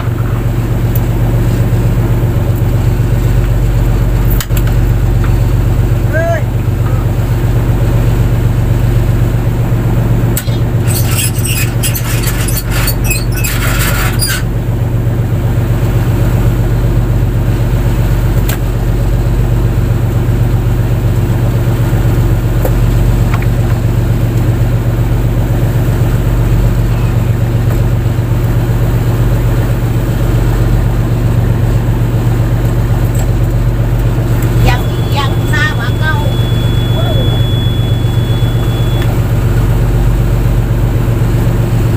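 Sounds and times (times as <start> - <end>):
boat engine drone: 0.0 - 41.9.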